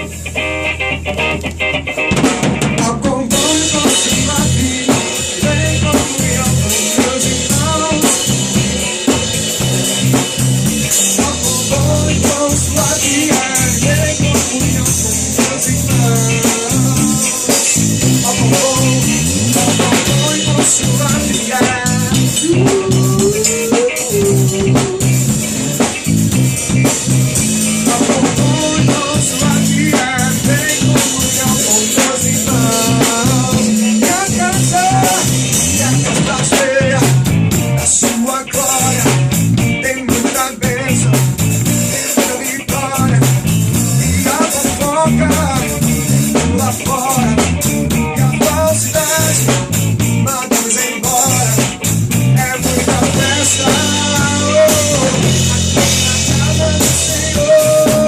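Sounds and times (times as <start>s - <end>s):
drum kit: 0.0s - 58.0s
guitar: 0.0s - 58.0s
live band playing gospel song: 0.0s - 58.0s.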